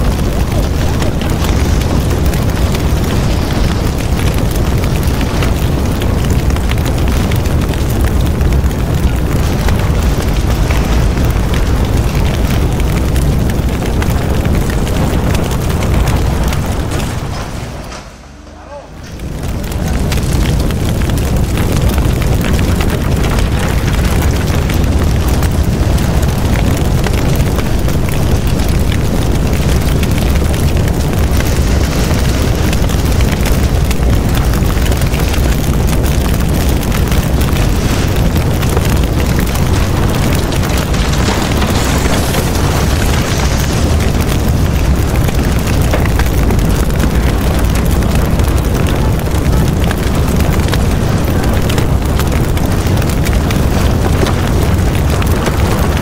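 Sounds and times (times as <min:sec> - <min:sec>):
loud steady rumbling: 0:00.0 - 0:56.0.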